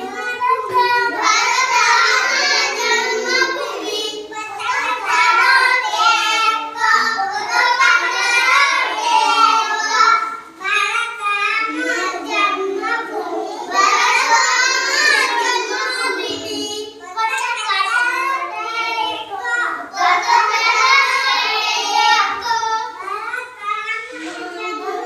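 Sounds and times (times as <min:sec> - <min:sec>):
children singing: 0:00.0 - 0:25.0.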